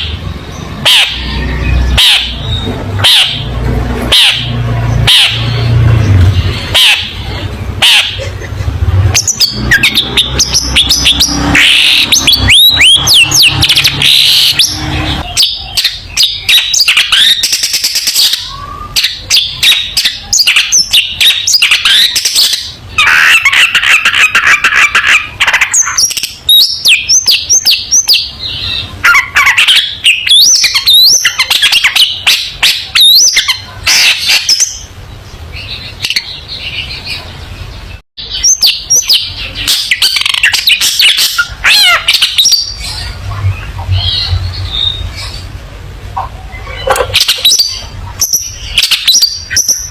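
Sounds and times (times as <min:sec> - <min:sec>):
bird harsh chattering: 0:00.0 - 0:37.4, 0:38.2 - 0:45.6, 0:46.2 - 0:49.9
bird singing varied song: 0:00.0 - 0:49.9.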